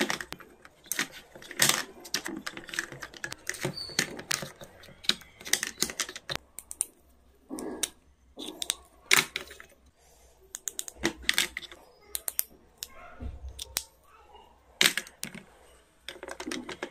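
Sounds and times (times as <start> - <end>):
pencils tapping plastic case: 0.0 - 7.0, 8.4 - 9.7, 10.5 - 13.9, 14.8 - 16.9.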